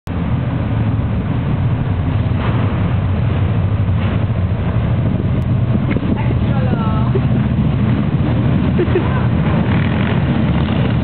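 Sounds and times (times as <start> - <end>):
motorcycle engines running: 0.1 - 11.0.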